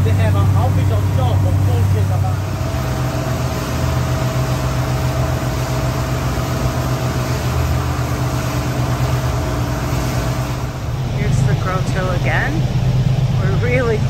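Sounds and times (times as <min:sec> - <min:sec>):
motorboat engine drone: 0:00.0 - 0:14.0
water rushing along hull: 0:00.0 - 0:14.0.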